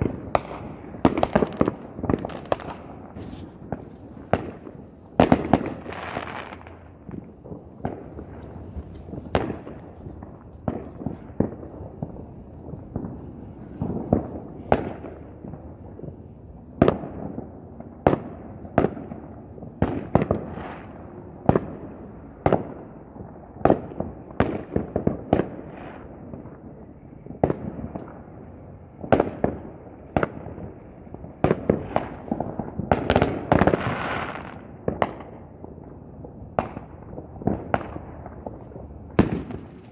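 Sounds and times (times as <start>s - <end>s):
distant explosions rumbling: 0.0s - 39.9s
fireworks bangs: 0.0s - 39.9s
fireworks crackling: 0.0s - 39.9s.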